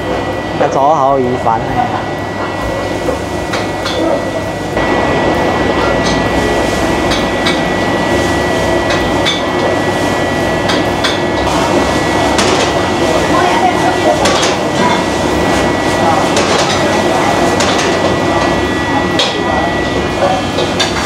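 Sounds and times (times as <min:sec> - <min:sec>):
gas burner roar: 0:00.0 - 0:21.0.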